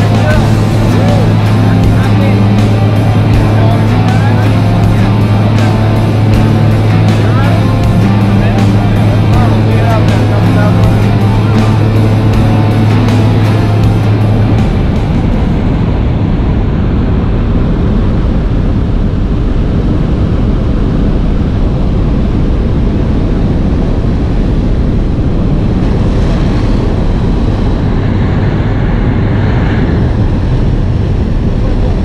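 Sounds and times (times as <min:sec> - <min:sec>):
plane engine drone: 0:00.0 - 0:32.0
wind rush: 0:00.0 - 0:32.0.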